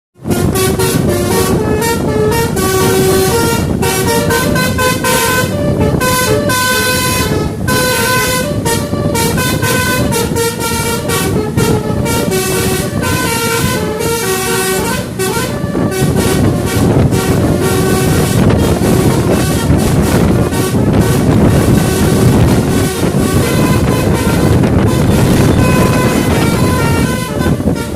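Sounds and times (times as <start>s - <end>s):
musical bus horn playing tune: 0.2s - 27.9s.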